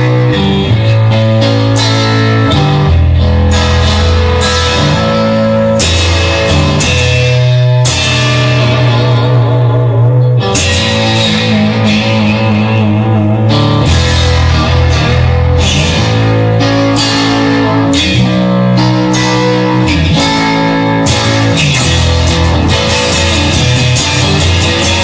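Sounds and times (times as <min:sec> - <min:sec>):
bass guitar: 0:00.0 - 0:25.0
drums: 0:00.0 - 0:25.0
electric guitar chords: 0:00.0 - 0:25.0.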